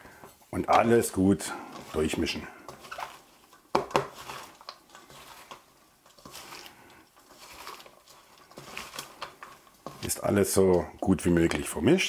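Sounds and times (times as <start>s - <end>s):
onions tossed in metal bowl: 0.0s - 12.0s.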